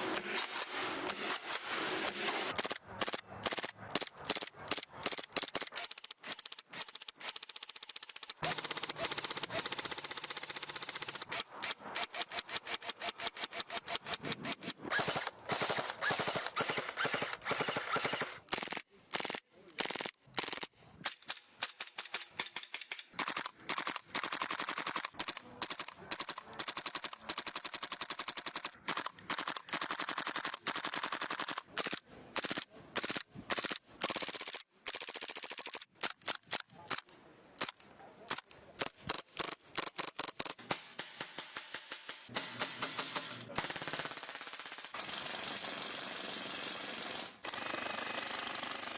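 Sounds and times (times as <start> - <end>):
airsoft guns firing automatic bursts: 0.0 - 36.3, 38.3 - 48.9.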